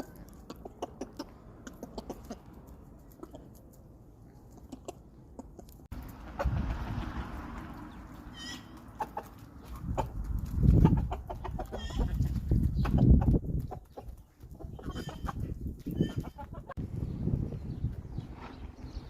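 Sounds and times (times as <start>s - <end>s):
chickens clucking: 0.0s - 16.8s.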